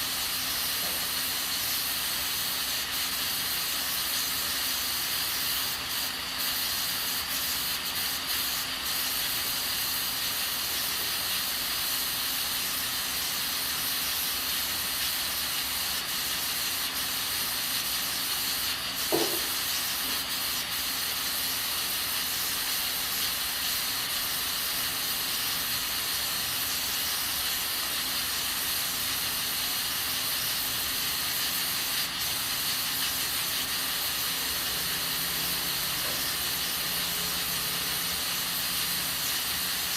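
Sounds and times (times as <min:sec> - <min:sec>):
pressure cooker valve hissing: 0:00.0 - 0:39.9.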